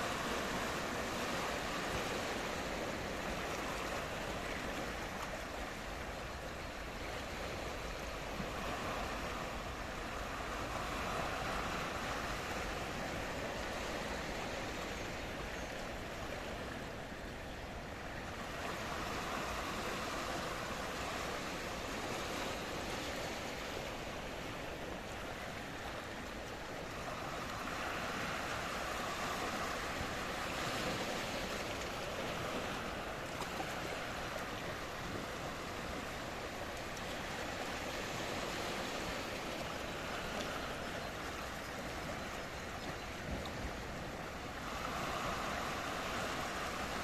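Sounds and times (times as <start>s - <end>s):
sea waves washing in: 0.0s - 47.0s.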